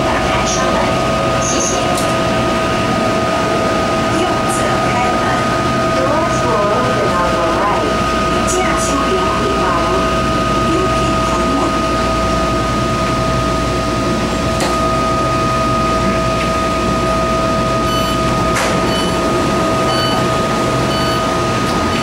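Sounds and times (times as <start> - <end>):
train running rumble: 0.0 - 22.0
two-tone hum: 0.0 - 22.0.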